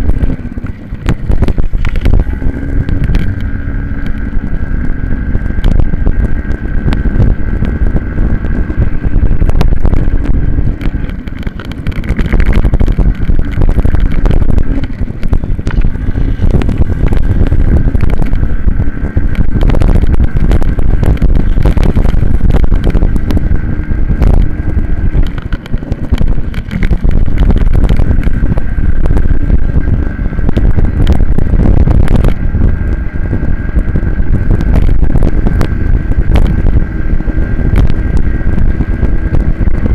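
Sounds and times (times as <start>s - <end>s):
minibike engine running hard: 0.0s - 39.9s
wind buffeting microphone: 0.0s - 39.9s.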